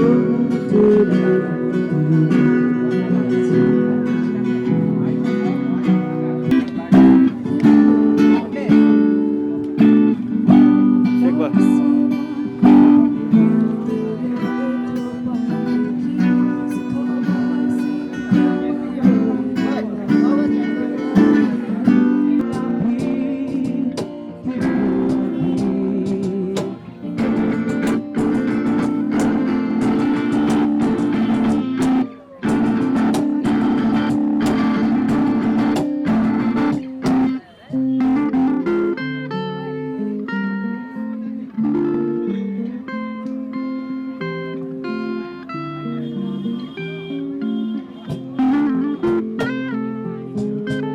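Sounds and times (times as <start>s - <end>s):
acoustic guitar strumming chords: 0.0s - 50.9s.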